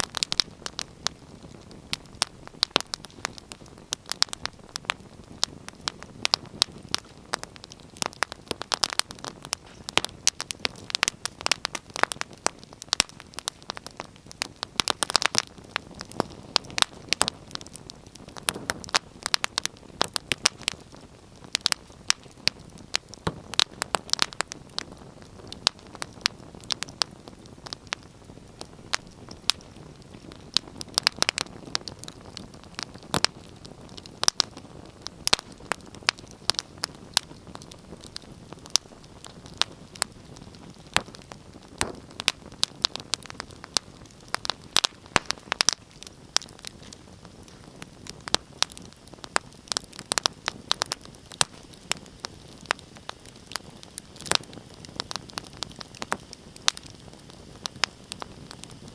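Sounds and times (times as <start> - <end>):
low steady hiss: 0.0 - 58.9
wood fire crackling: 0.0 - 58.9.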